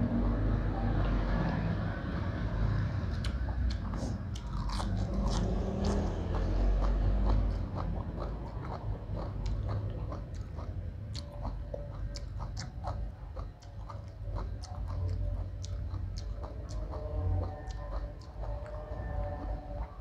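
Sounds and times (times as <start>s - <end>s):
chewing and mouth smacking: 3.1s - 20.0s.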